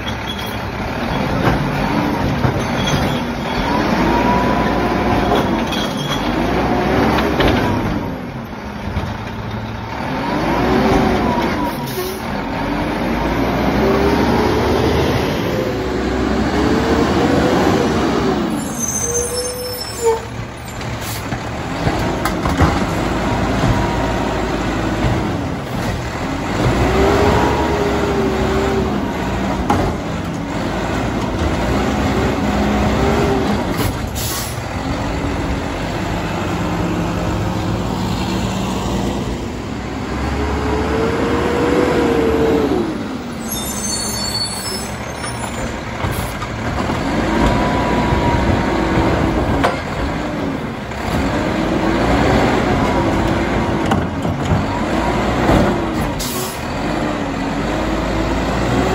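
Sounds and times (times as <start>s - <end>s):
diesel engine revving: 0.0s - 58.9s.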